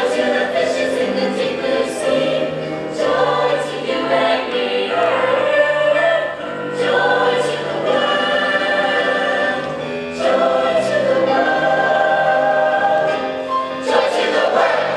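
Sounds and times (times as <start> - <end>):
choir singing in close harmony: 0.0 - 14.9.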